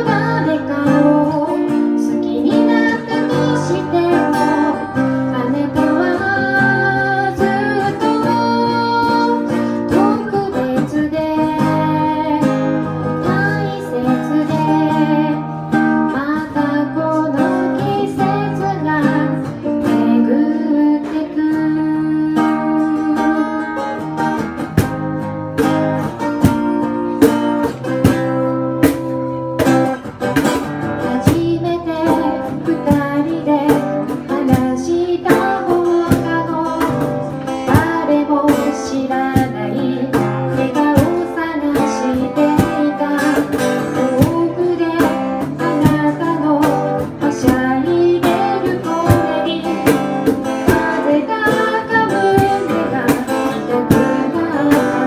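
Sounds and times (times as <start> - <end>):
woman singing pop ballad: 0.0 - 24.0, 31.0 - 55.0
strummed acoustic guitar: 0.0 - 55.0.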